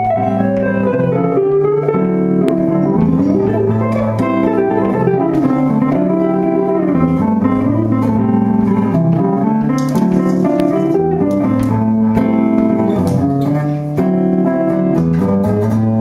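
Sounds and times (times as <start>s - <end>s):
guitar: 0.0s - 16.0s
instrumental band music: 0.0s - 16.0s
low bass notes: 0.0s - 16.0s.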